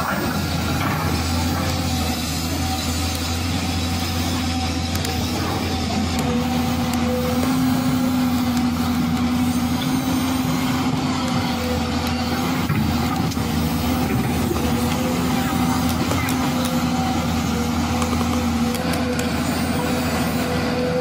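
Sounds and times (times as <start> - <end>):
electric motors whirring: 0.0 - 21.0.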